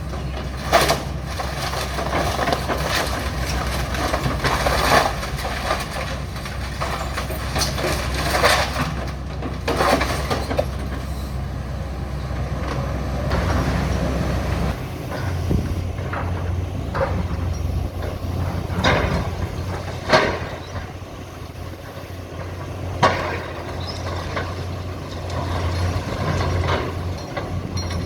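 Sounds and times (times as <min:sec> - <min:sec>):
debris crunching and crashing: 0:00.0 - 0:11.2, 0:12.4 - 0:28.0
excavator diesel engine under load: 0:00.0 - 0:28.0.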